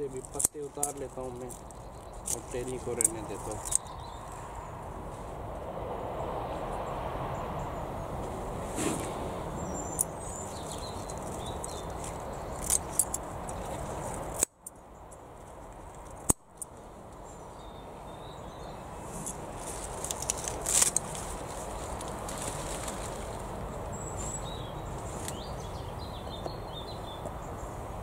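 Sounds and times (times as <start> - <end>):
leaves rustling: 0.0 - 5.6, 8.2 - 14.4, 15.2 - 25.9
outdoor background noise: 0.0 - 28.0.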